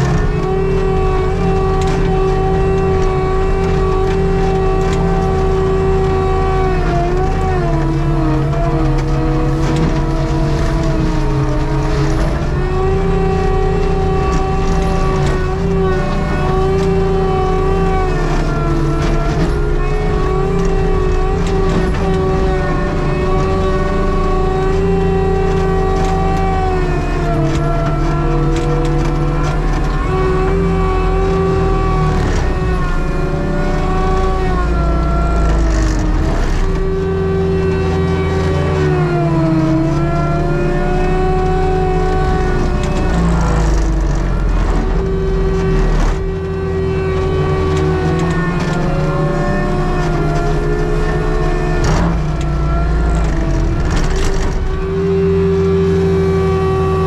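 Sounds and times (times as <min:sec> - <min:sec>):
brush and trees being ground: 0:00.0 - 0:57.0
skid steer engine running hard: 0:00.0 - 0:57.0.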